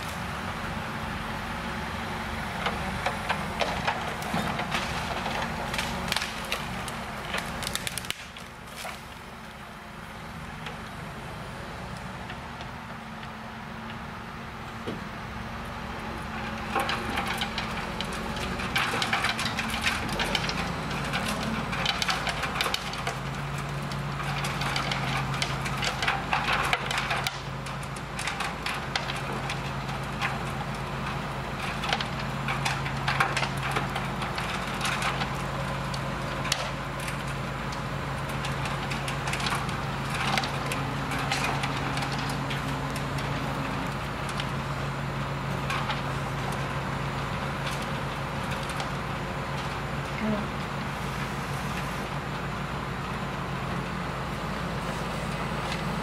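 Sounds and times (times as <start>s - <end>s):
wood chipper engine drone: 0.0s - 56.0s
wood crackling and splintering: 0.0s - 56.0s.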